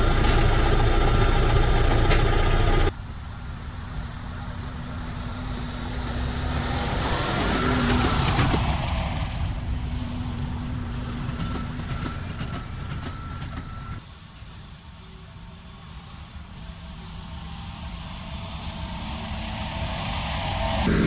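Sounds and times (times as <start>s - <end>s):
tractor engine: 0.0s - 14.0s, 16.4s - 21.0s.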